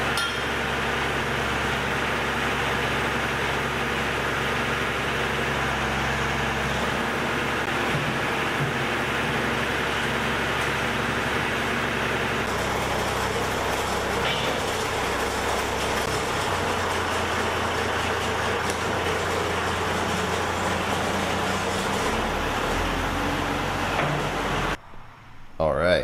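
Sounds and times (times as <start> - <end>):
tractor engine running: 0.0 - 25.4.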